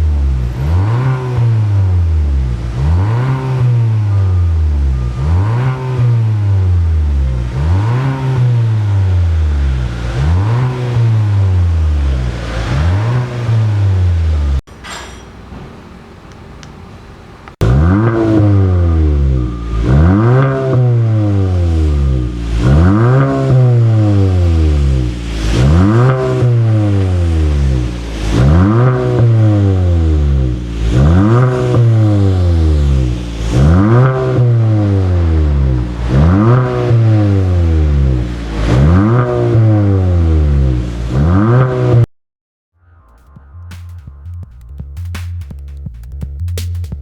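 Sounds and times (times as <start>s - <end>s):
car engine revving: 0.0s - 14.6s, 17.6s - 42.1s, 43.1s - 47.0s.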